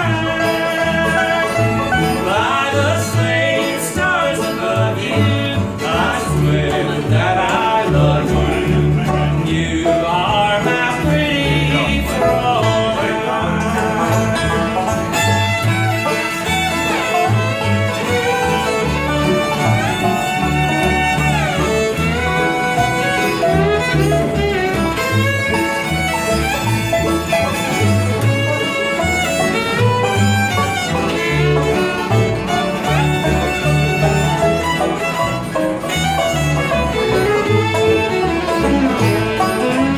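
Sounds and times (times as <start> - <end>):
banjo: 0.0 - 39.9
fiddle playing: 0.0 - 39.9
guitar: 0.0 - 39.9
pulsing bass line: 0.0 - 39.9.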